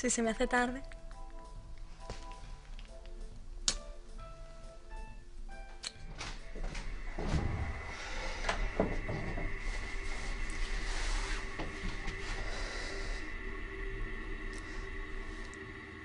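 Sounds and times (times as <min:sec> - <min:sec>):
music: 0:00.0 - 0:16.0
faint steady whine: 0:00.7 - 0:16.0.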